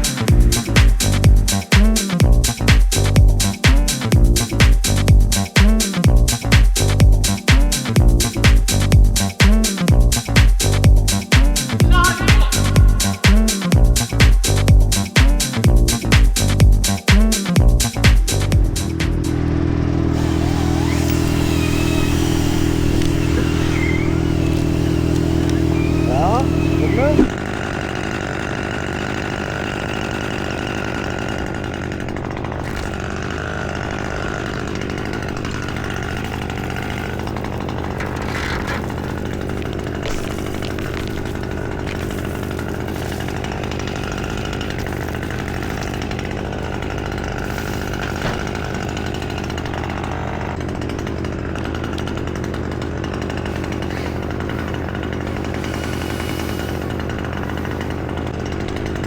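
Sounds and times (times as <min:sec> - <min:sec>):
chainsaw running: 0:00.0 - 0:59.0.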